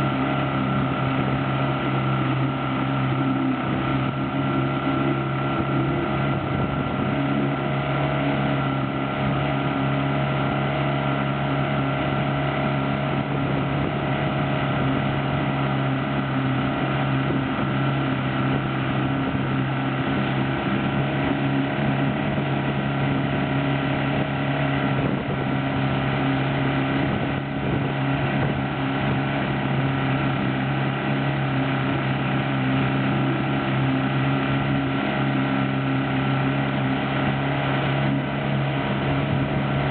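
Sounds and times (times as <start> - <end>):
outboard motor running: 0.0 - 39.9
water wake rushing: 0.0 - 39.9.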